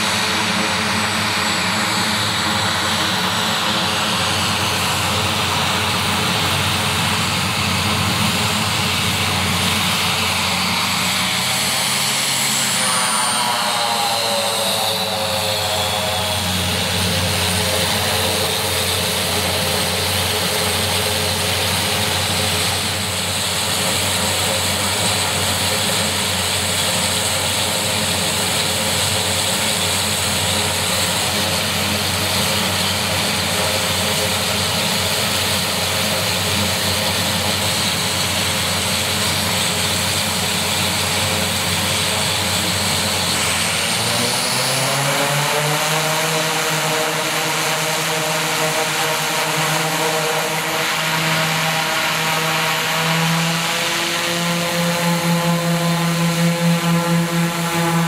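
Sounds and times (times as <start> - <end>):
turboprop engines idling: 0.0 - 58.0.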